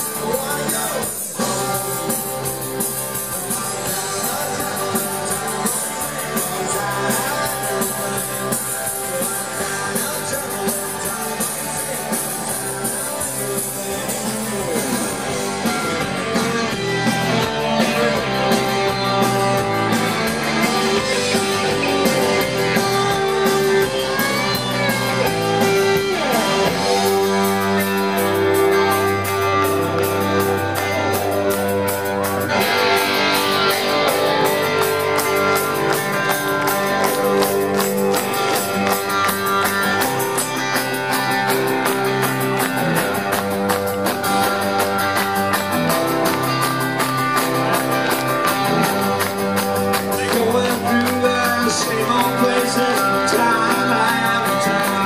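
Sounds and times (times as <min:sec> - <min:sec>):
drums: 0:00.0 - 0:55.0
electric guitars: 0:00.0 - 0:55.0
keyboards: 0:00.0 - 0:55.0.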